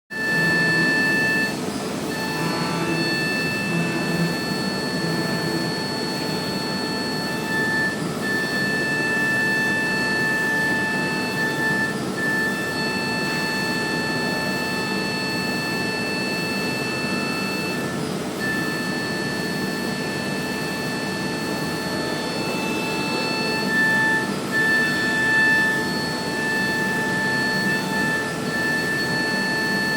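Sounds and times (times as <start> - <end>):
milling machine spindle whine: 0.1 - 29.9.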